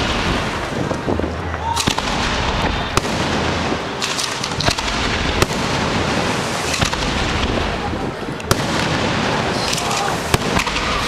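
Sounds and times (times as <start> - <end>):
firework shells bursting: 1.8 - 11.0.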